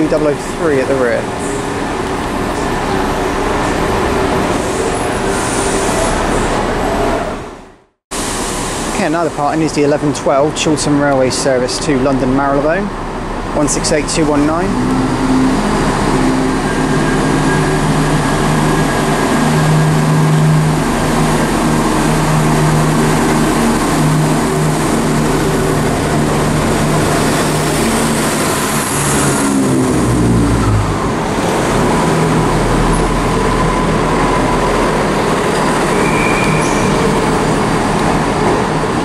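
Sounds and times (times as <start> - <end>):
diesel train accelerating: 0.0 - 39.0.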